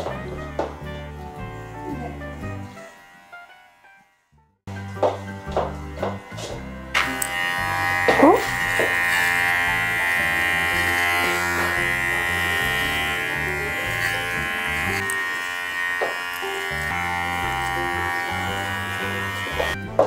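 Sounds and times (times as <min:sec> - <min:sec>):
electric clippers humming: 0:00.0 - 0:20.0.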